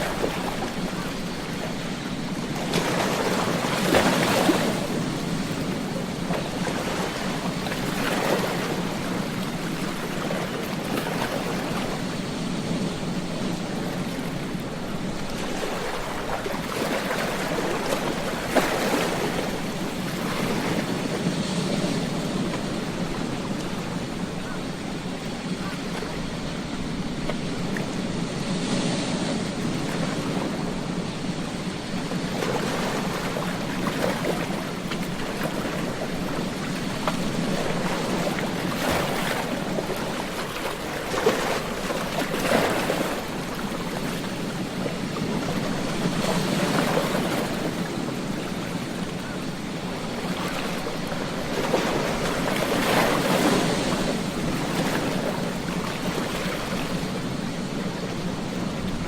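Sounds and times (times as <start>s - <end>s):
ocean surf on a beach: 0.0s - 59.0s.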